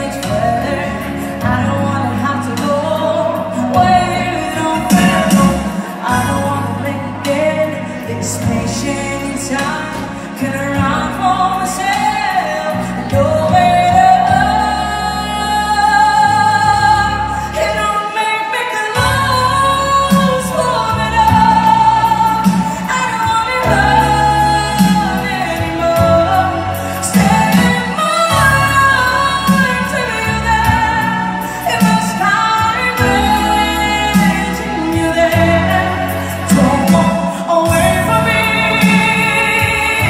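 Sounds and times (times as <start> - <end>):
backing track with bass line: 0.0 - 18.1, 19.0 - 40.0
woman singing a ballad: 0.0 - 40.0.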